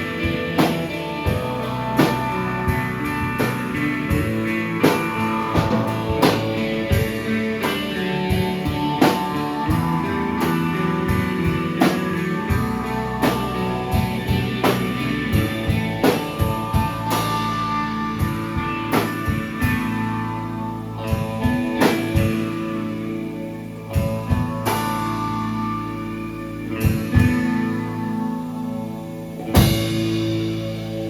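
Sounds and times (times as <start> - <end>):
drum kit beat: 0.0 - 31.0
guitar notes ringing: 0.0 - 31.0.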